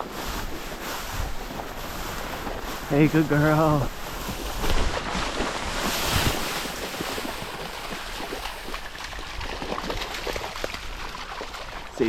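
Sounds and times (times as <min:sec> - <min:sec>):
wind buffeting microphone: 0:00.0 - 0:11.9
dry grass rustling and crackling: 0:00.0 - 0:12.0.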